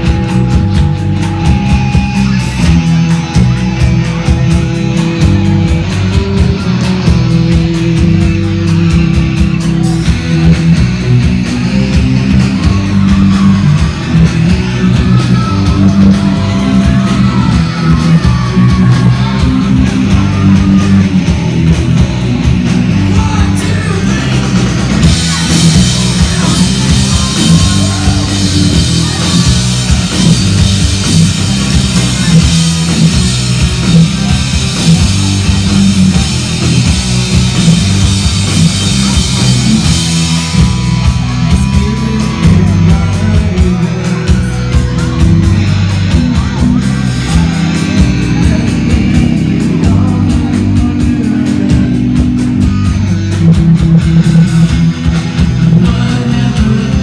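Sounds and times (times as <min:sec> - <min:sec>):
person singing: 0:00.0 - 0:53.6, 0:55.6 - 0:57.0
bass guitar: 0:00.0 - 0:57.0
distorted electric guitars: 0:00.0 - 0:57.0
drum kit: 0:00.0 - 0:57.0.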